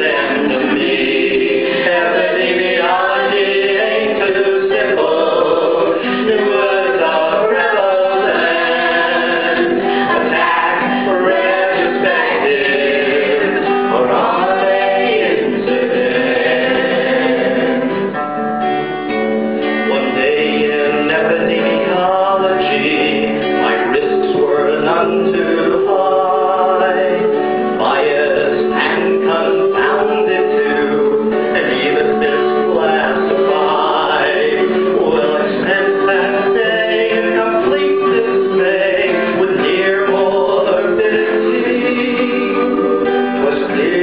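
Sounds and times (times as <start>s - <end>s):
acoustic guitars strumming: 0.0s - 44.0s
people singing together: 0.0s - 44.0s.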